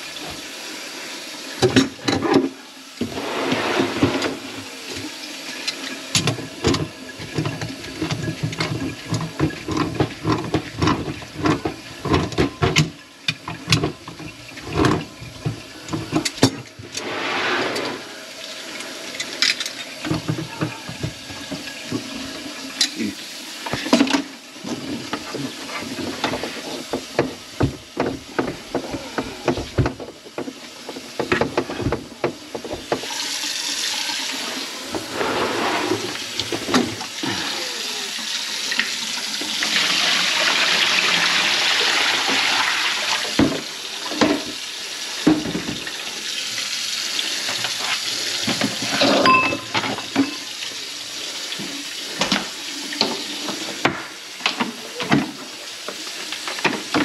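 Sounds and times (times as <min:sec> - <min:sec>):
tap water running into sink: 0:00.0 - 0:17.1, 0:17.7 - 0:57.0.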